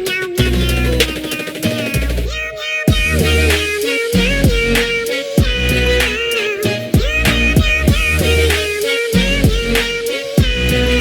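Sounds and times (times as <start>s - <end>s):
background music with a beat: 0.0s - 2.3s, 2.9s - 11.0s.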